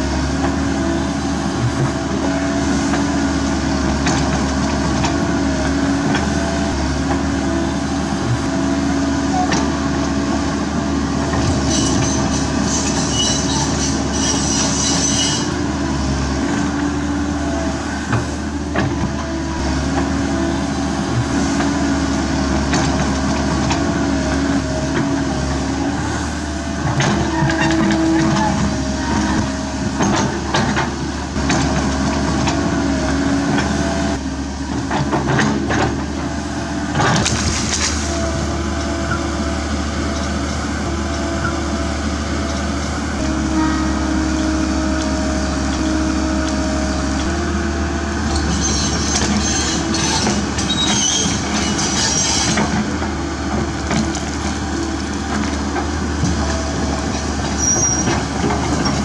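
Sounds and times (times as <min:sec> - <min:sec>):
excavator diesel engine and hydraulics: 0:00.0 - 0:59.0.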